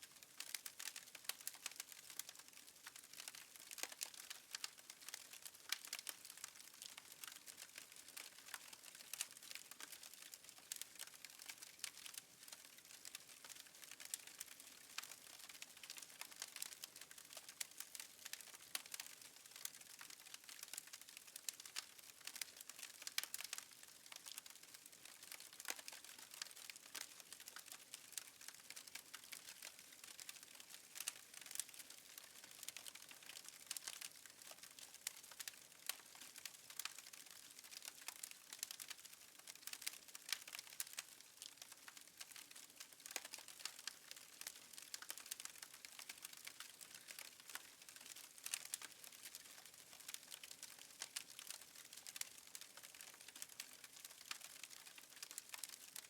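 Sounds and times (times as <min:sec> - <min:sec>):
wood fire crackling and popping: 0:00.2 - 0:56.0.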